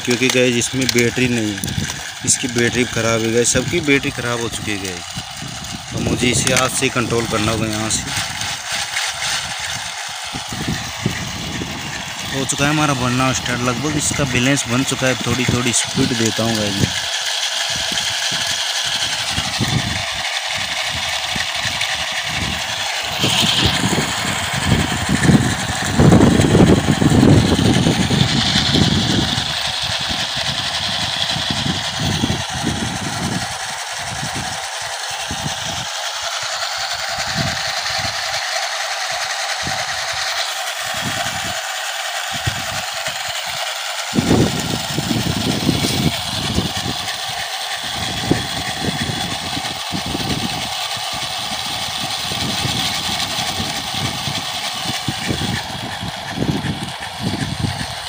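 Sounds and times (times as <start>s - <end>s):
electric motors whirring: 0.0s - 58.0s
tyres spinning on asphalt: 0.0s - 58.0s.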